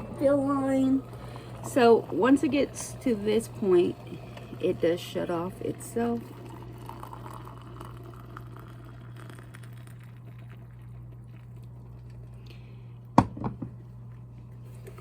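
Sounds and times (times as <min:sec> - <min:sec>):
kettle water boiling: 0:00.0 - 0:15.0.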